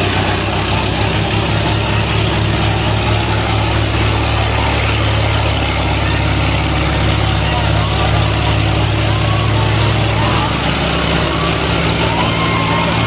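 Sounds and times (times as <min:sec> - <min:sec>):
diesel tractor engine humming: 0:00.0 - 0:13.0.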